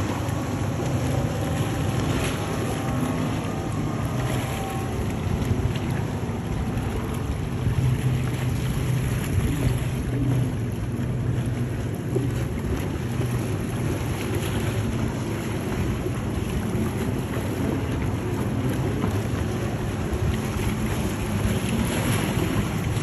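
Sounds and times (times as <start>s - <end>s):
boat engines droning: 0.0s - 23.0s.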